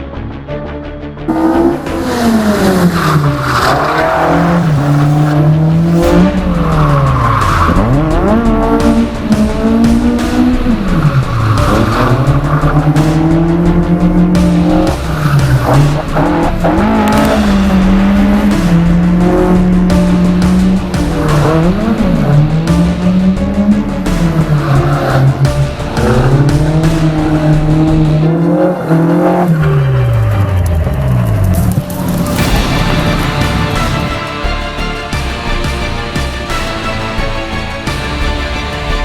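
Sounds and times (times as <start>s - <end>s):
car engine revving: 1.3s - 39.0s.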